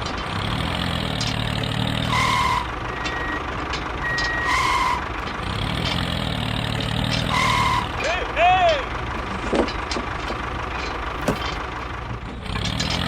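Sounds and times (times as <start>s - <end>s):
toy vehicle engine hum: 0.0s - 13.0s.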